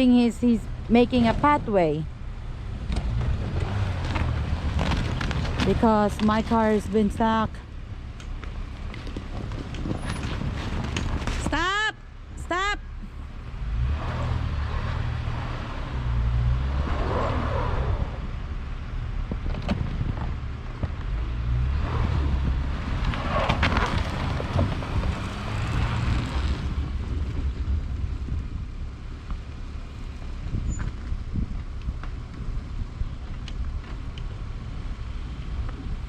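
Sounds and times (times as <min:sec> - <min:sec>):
car engine rumbling: 0:00.0 - 0:36.0.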